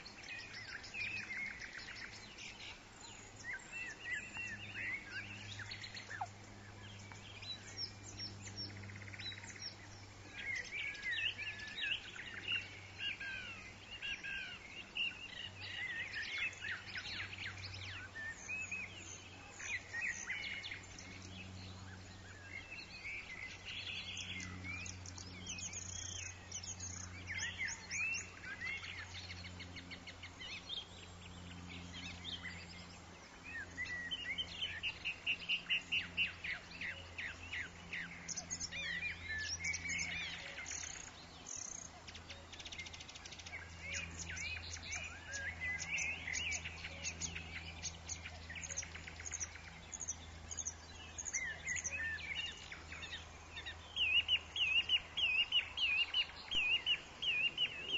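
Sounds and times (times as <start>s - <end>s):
low steady hum: 0.0s - 57.9s
songbirds chirping and singing: 0.0s - 57.9s.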